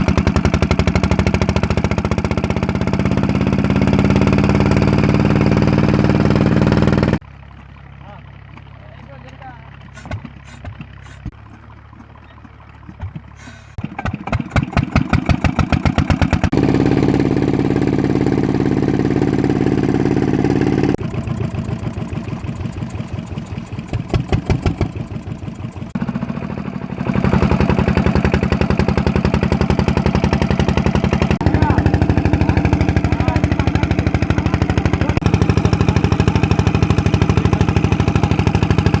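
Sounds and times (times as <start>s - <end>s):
stationary engine running: 0.0s - 39.0s.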